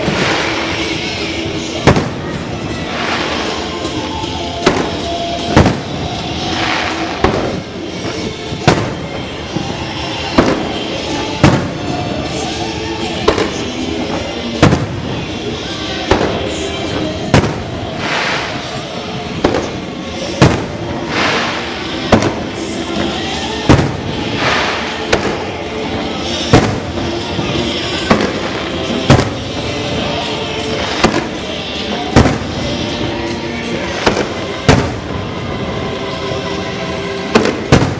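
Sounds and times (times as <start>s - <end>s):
crackling hissing firework trail: 0.0s - 37.9s
fireworks bursting with sharp bangs: 0.0s - 37.9s
music playing: 0.0s - 37.9s.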